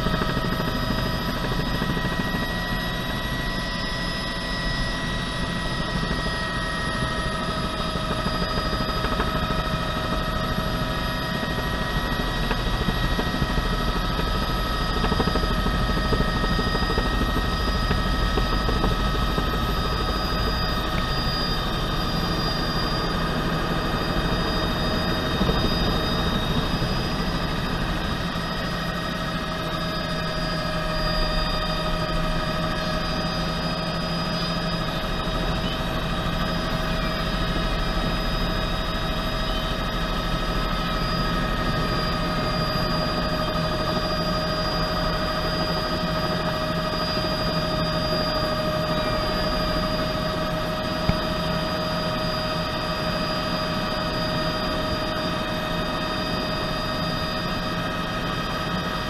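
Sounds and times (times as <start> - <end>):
helicopter turbine whine: 0.0 - 59.0
rotor drone: 0.0 - 59.0.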